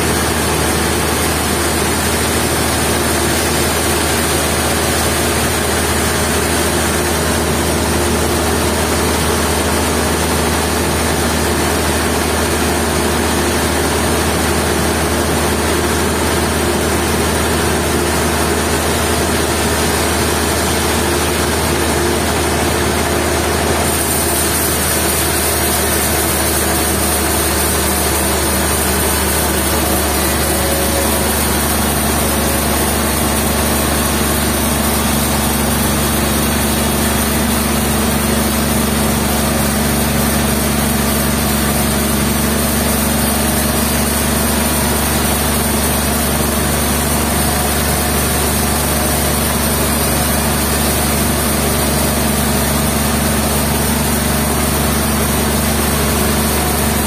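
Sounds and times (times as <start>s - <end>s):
sawmill machinery humming: 0.0s - 57.0s.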